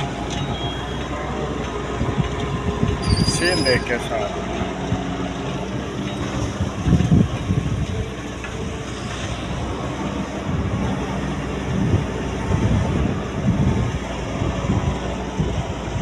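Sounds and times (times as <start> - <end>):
heavy machine engine running: 0.0 - 16.0.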